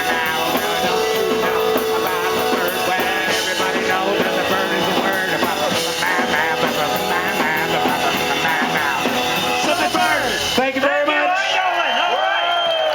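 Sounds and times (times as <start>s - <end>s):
electric guitar: 0.0s - 10.6s
drum kit: 0.0s - 11.6s
band playing surf rock: 0.0s - 11.7s.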